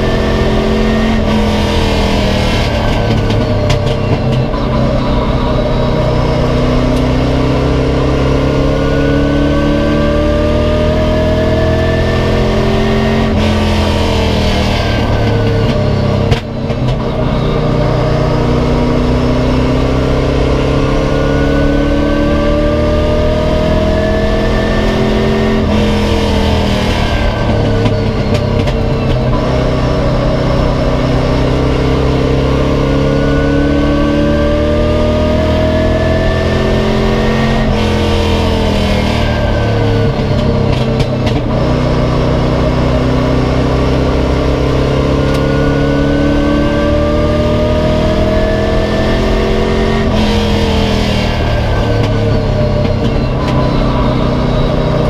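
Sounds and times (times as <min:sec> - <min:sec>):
race car engine accelerating: 0:00.0 - 0:55.0.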